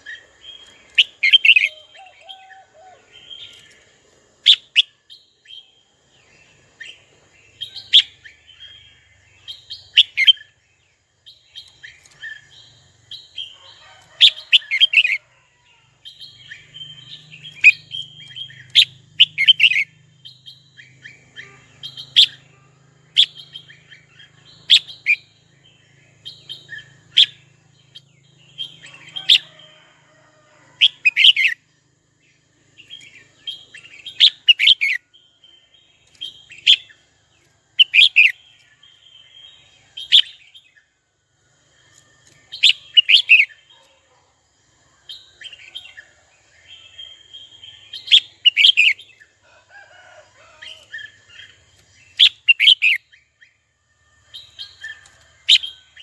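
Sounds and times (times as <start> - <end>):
bird chirping: 0.0 - 29.9, 30.8 - 41.0, 41.6 - 56.0.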